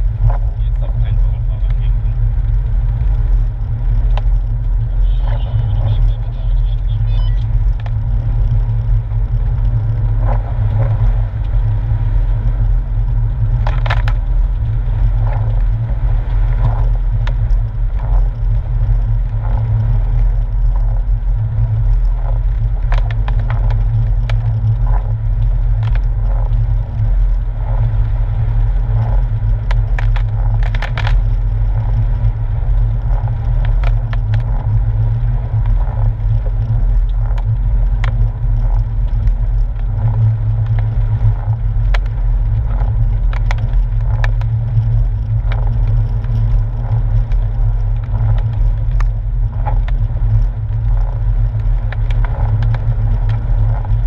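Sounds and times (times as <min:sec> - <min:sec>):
car engine low rumble: 0:00.0 - 0:54.0
tyres crackling over gravel: 0:00.0 - 0:54.0.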